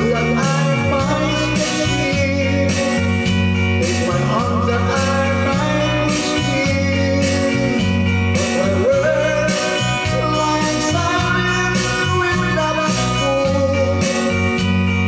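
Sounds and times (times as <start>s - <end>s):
bass line: 0.0s - 15.0s
bending guitar melody: 0.0s - 15.0s.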